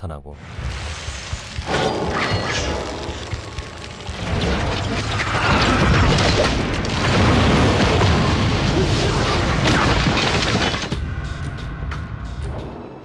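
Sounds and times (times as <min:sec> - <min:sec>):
film score: 0:00.0 - 0:13.0.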